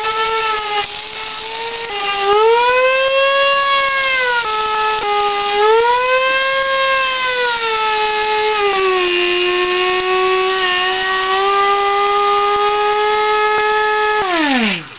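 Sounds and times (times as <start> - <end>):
coffee grinder running: 0.0 - 14.9.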